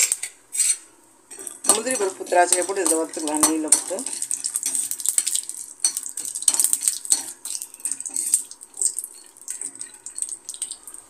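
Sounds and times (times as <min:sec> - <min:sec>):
light sizzle of frying: 0:00.0 - 0:11.0
metal spoon scraping a pan: 0:00.0 - 0:11.0.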